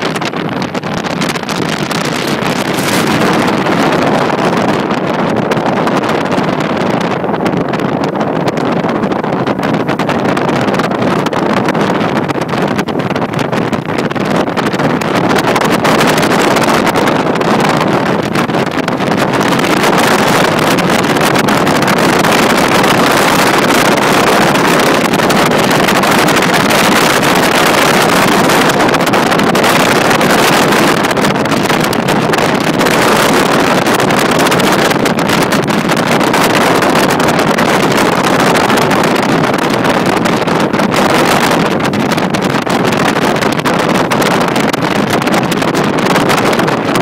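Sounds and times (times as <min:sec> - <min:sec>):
tyre and road noise: 0:00.0 - 0:47.0
wind rushing over microphone: 0:00.0 - 0:47.0.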